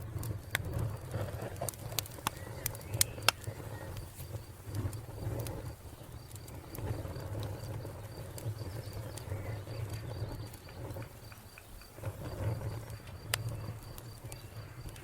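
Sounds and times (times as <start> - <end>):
wood fire crackling: 0.0 - 15.0
cricket chirping: 0.8 - 15.0.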